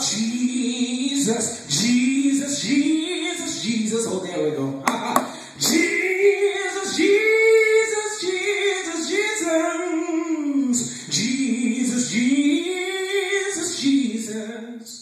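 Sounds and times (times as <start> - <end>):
man singing gospel: 0.0 - 15.0.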